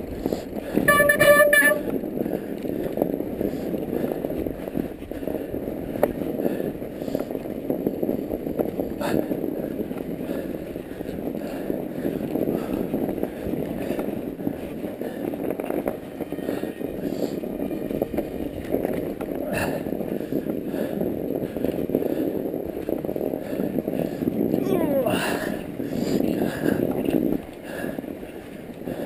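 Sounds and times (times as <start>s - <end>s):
bike tyres rolling through snow: 0.0s - 29.0s.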